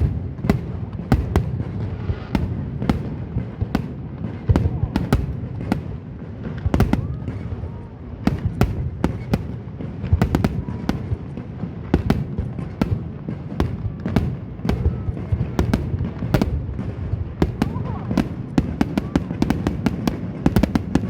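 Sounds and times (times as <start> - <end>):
fireworks bangs and cracks: 0.0 - 21.0.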